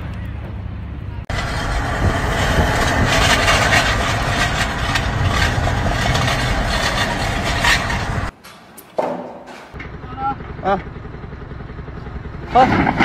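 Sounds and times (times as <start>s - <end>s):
vehicle engine running: 0.0s - 8.4s, 9.7s - 13.0s
heavy road noise: 0.0s - 13.0s.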